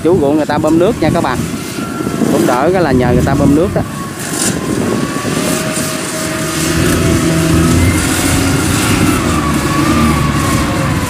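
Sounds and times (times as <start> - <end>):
engine droning under load: 0.0 - 11.0.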